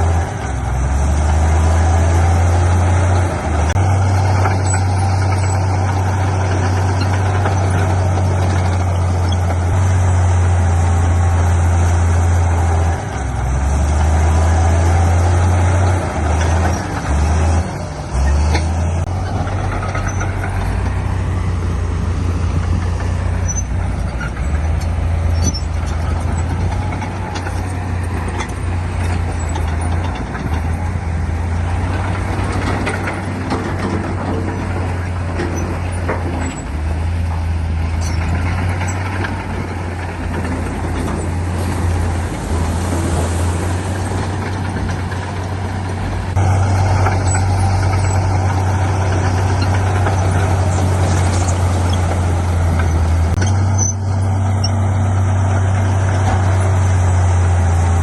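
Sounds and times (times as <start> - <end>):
clattering machine noise: 0.0 - 58.0
diesel engine droning: 0.0 - 58.0.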